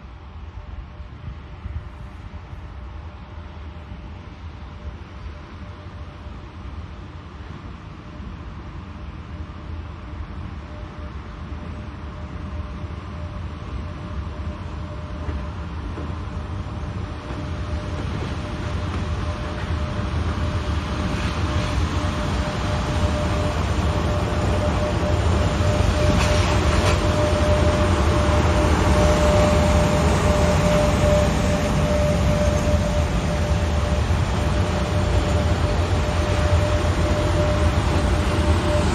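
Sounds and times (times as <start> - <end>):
train running on rails: 0.0 - 38.9.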